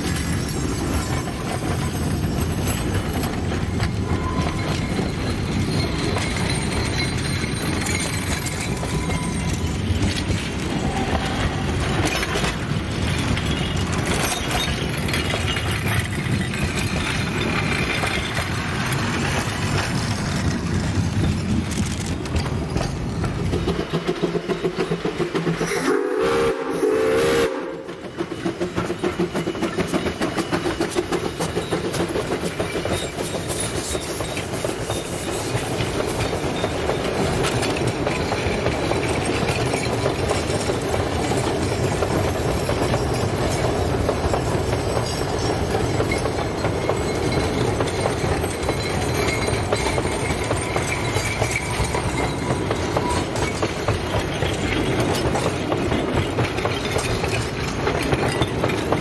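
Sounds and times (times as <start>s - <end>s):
steam train rolling rumble: 0.0s - 59.0s
wheels clacking on rail joints: 0.0s - 59.0s.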